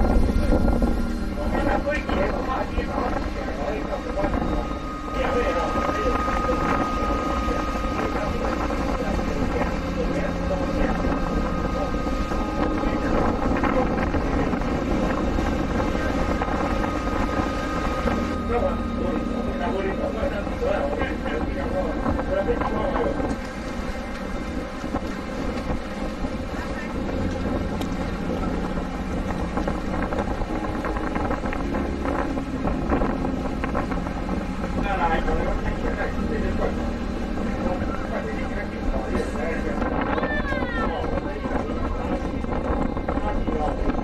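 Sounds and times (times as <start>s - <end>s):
boat engine running: 0.0s - 44.0s
wind on microphone: 0.0s - 44.0s.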